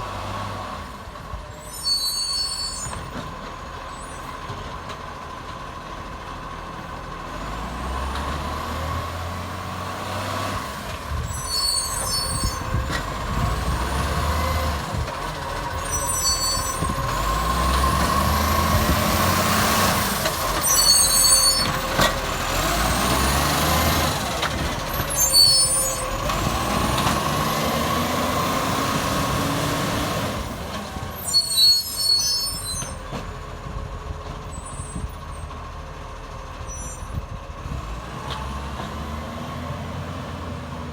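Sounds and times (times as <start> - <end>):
diesel engine revving: 2.7 - 40.9.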